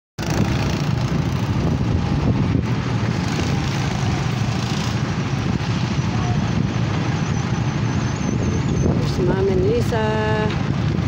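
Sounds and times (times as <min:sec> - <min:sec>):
go-kart engines droning: 0:00.2 - 0:09.2.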